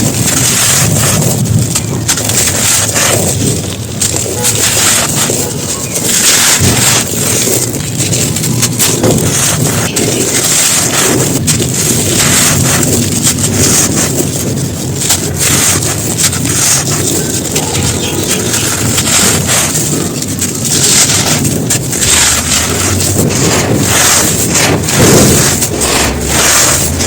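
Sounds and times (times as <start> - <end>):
crumbly material being crushed: 0.0 - 27.0.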